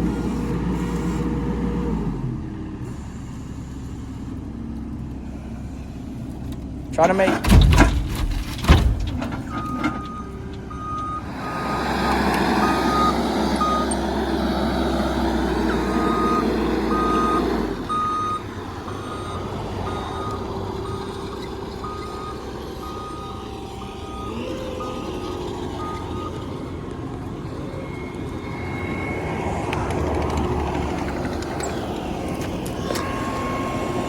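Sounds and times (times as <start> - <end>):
truck reversing alarm beeping: 0.0 - 4.6, 8.7 - 34.0
truck engine under load: 0.0 - 34.0.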